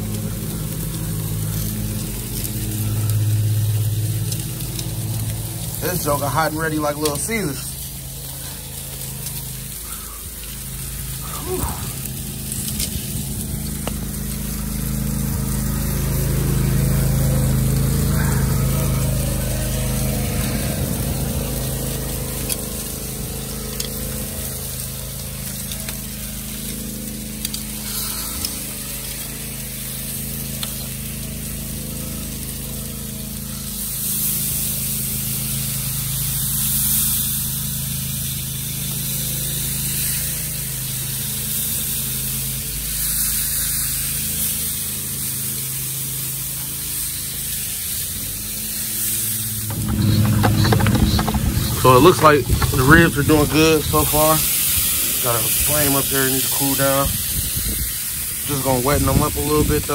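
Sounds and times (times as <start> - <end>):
meat sizzling on grill: 0.0 - 59.9.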